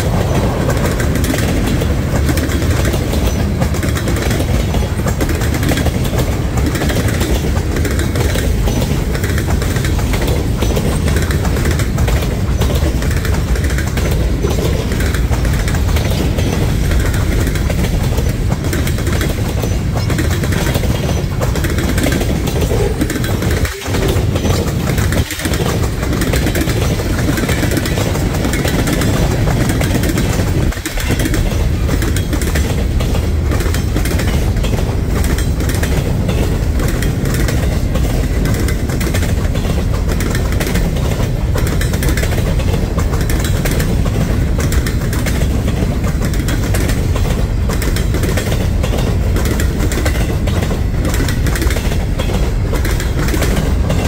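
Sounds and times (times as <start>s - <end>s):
freight cars rumbling on track: 0.0s - 54.0s.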